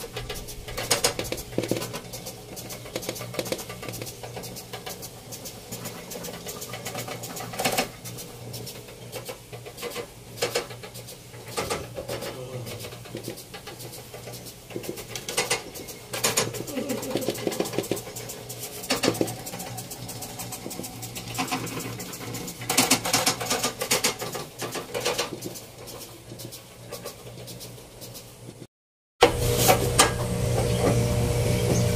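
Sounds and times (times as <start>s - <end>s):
treadle sewing machine clicking: 0.0s - 28.4s.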